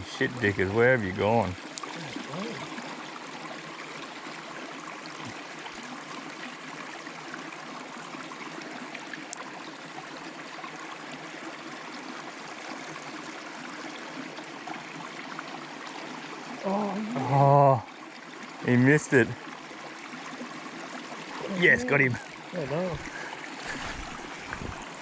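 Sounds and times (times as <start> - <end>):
creek water flowing over rocks: 0.0 - 25.0.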